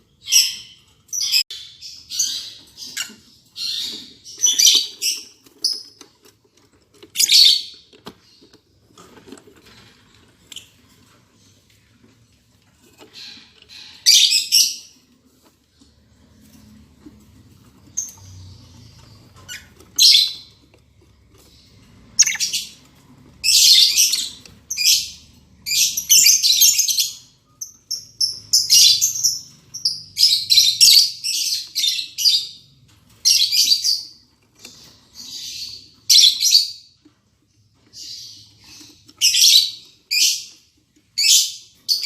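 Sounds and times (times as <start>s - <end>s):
lovebirds chirping: 0.0s - 42.0s.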